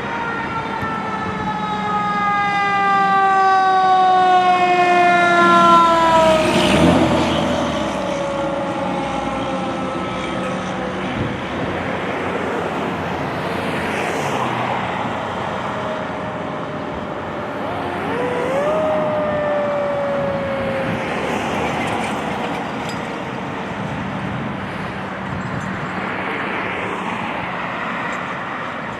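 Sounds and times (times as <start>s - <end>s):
faint siren wail: 0.0s - 24.5s
fire engine siren wailing: 0.0s - 24.9s
street traffic: 0.0s - 28.9s.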